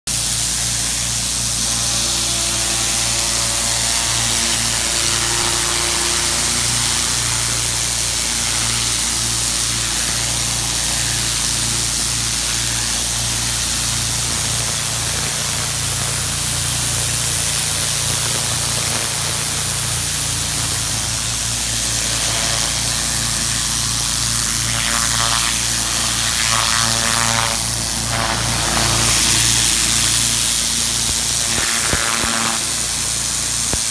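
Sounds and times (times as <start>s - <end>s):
pressure washer machine hum: 0.1s - 33.9s
water jet hissing on concrete: 0.1s - 33.9s.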